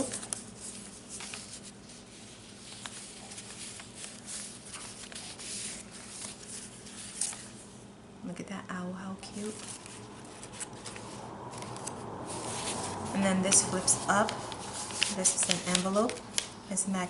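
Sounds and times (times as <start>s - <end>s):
paper rustling: 0.0s - 7.7s, 9.4s - 16.6s.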